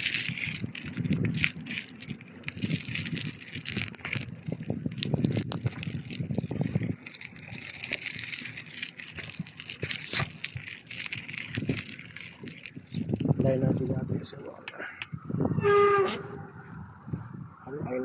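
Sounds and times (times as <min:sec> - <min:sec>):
bicycle clicks and rattles: 0:00.0 - 0:17.2.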